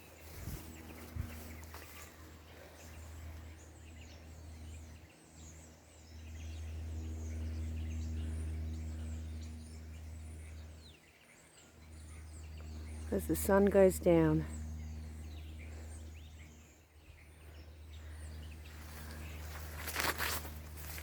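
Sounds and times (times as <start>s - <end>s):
birds chirping: 0.0s - 21.0s
low steady hum: 0.0s - 21.0s.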